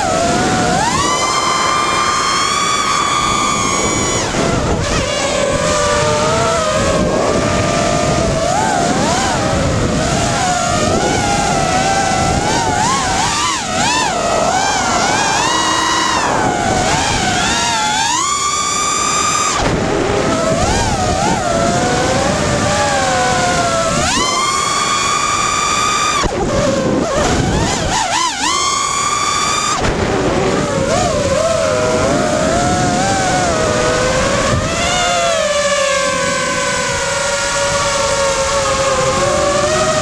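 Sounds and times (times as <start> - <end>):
drone motor and propeller whine: 0.0 - 40.0.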